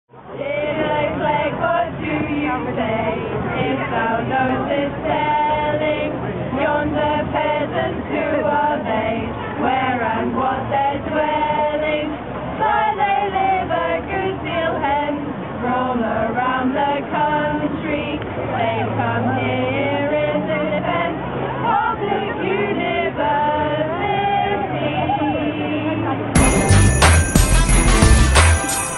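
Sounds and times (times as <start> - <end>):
group singing unaccompanied: 0.2 - 28.9.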